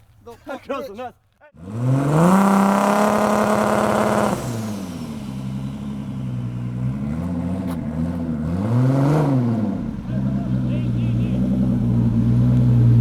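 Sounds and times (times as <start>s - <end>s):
race car engine revving: 1.6s - 13.0s.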